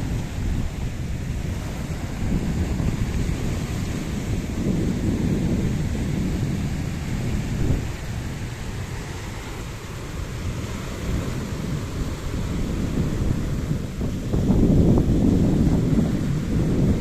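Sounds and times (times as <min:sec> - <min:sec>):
sea surf: 0:00.0 - 0:17.0
wind rumbling on microphone: 0:00.0 - 0:17.0.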